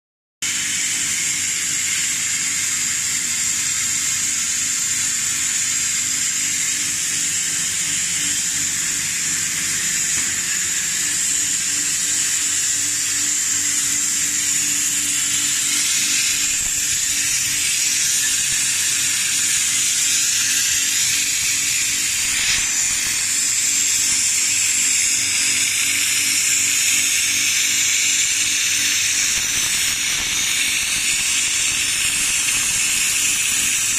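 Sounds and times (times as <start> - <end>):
blower air hissing: 0.4 - 33.9.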